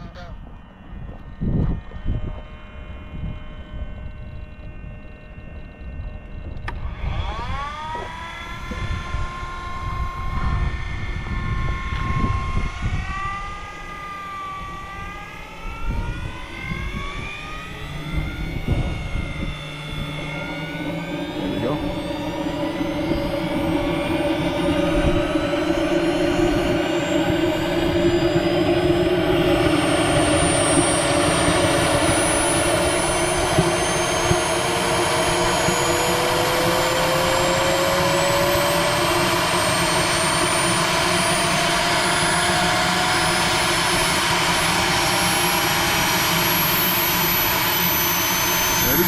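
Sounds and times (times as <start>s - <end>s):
small turbine engine spooling up: 0.0s - 49.0s.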